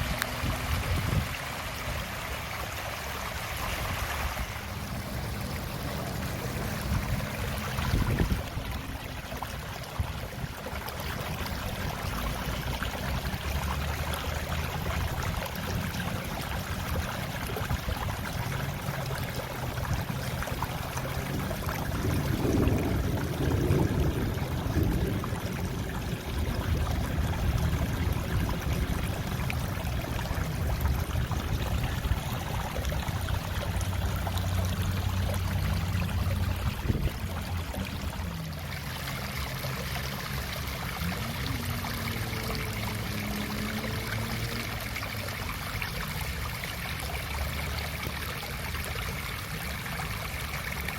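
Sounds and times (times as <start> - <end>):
rainwater rushing: 0.0 - 50.9.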